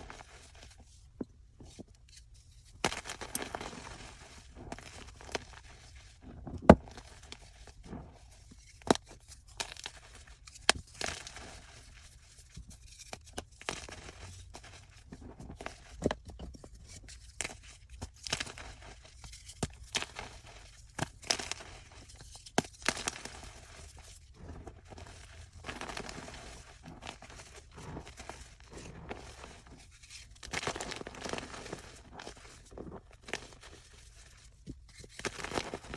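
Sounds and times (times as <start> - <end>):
chalk crunching and snapping: 1.7 - 12.0, 17.3 - 35.9.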